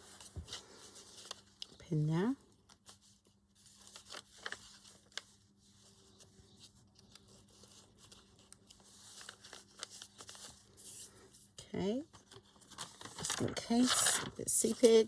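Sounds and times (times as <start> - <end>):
paper rustling: 0.0 - 1.8, 2.6 - 11.3, 12.1 - 15.0.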